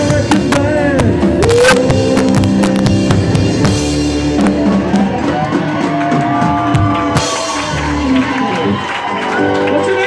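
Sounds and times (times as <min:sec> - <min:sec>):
drum kit and cymbal hits: 0:00.0 - 0:08.8
electric guitar: 0:00.0 - 0:10.0.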